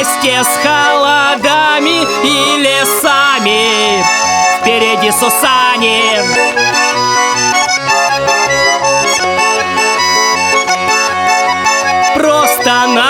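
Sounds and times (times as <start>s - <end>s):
accordion melody: 0.0s - 13.0s.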